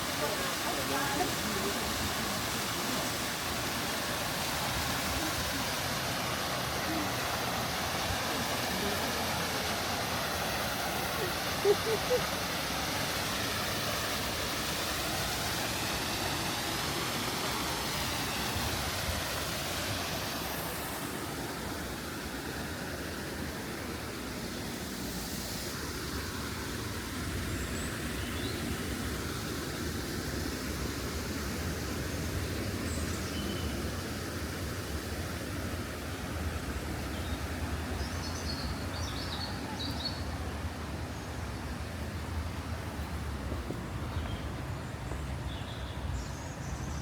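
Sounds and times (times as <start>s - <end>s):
street traffic rumble: 0.0s - 47.0s.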